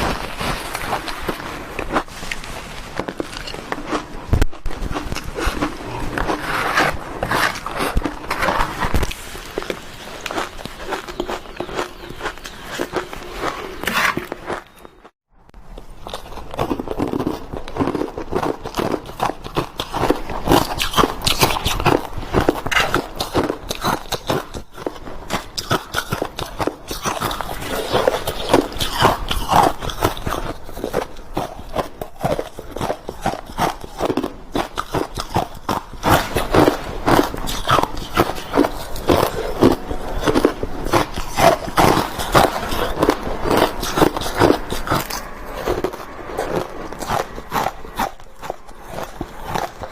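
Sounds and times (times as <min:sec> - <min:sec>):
chewing crushed ice: 0:00.0 - 0:49.9.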